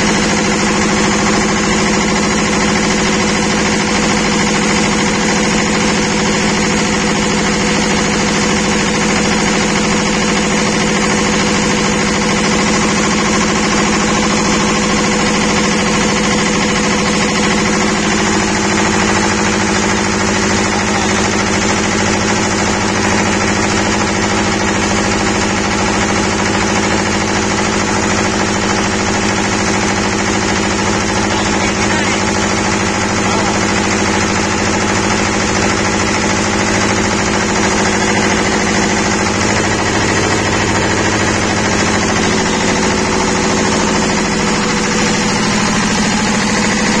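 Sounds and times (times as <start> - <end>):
generator engine running: 0.0 - 47.0.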